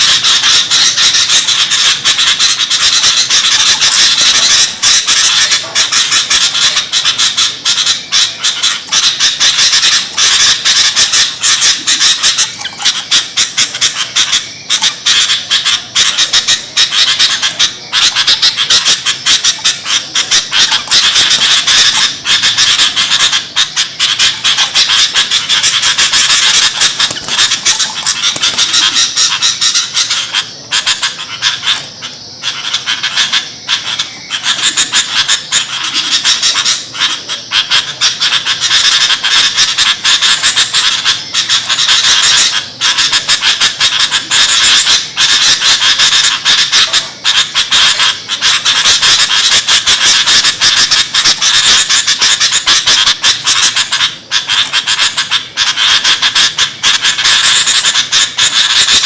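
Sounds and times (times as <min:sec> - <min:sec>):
bulbuls harsh chattering: 0:00.0 - 0:59.0.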